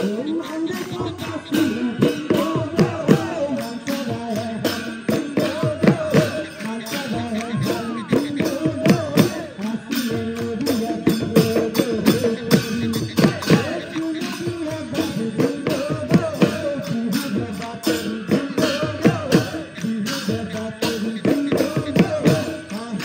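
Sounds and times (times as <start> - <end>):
drums beating quick rhythm: 0.0 - 23.0
jingling cymbals: 0.0 - 23.0
person singing: 0.0 - 23.0.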